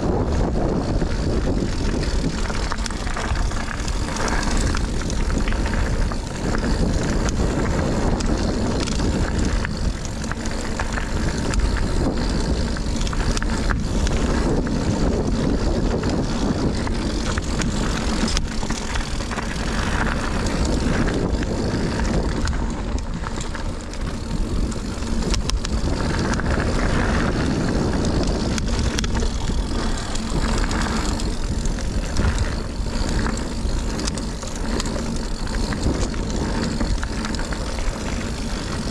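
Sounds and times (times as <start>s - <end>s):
bike clicks and rattles: 0.0s - 38.9s
bike tyres rolling on dirt: 0.0s - 38.9s
wind rushing over camera: 0.0s - 38.9s.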